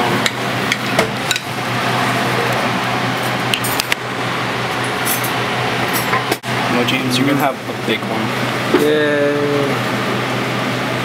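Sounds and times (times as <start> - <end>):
fan rushing with low hum: 0.0 - 11.0.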